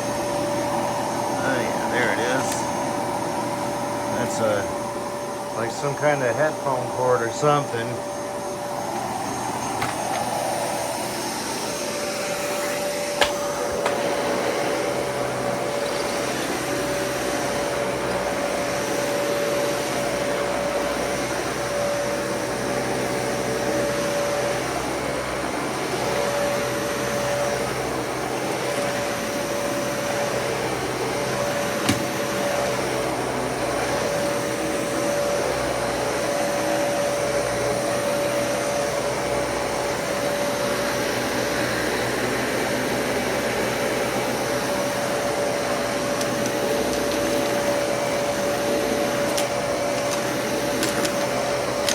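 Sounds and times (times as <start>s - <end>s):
vacuum cleaner whine: 0.0s - 51.9s.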